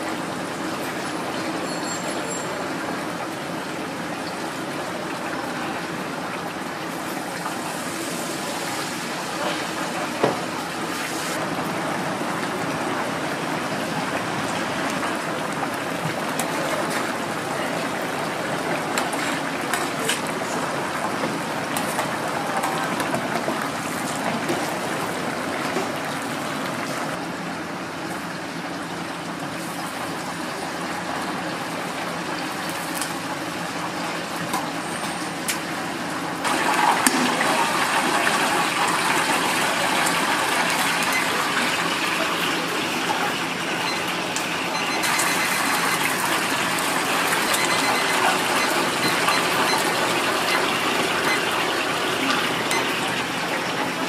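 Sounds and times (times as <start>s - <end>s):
hot oil sizzling in deep fryer: 0.0s - 54.0s.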